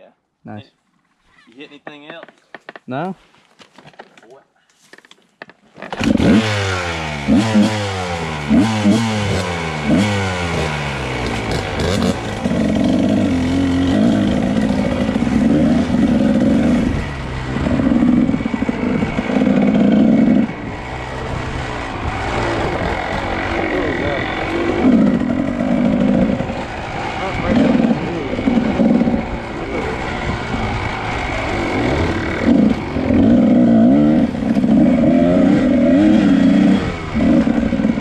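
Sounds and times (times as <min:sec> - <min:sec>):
two-stroke motorcycle engine revving: 0:05.8 - 0:38.0.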